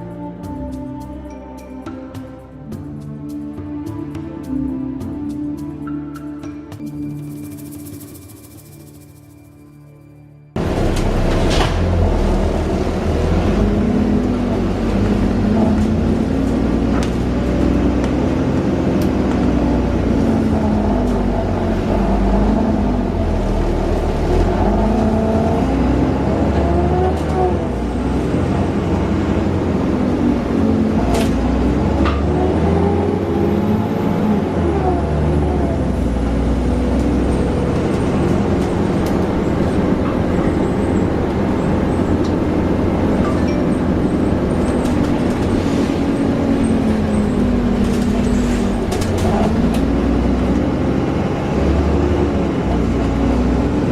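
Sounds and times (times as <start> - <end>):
bus engine and transmission: 0.0 - 53.9.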